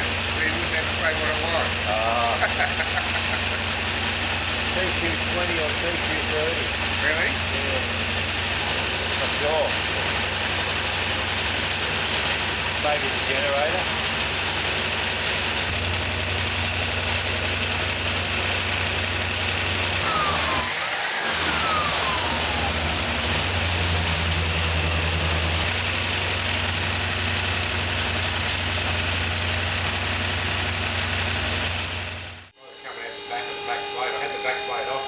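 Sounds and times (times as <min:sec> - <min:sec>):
v eight engine idling: 0:00.0 - 0:32.6.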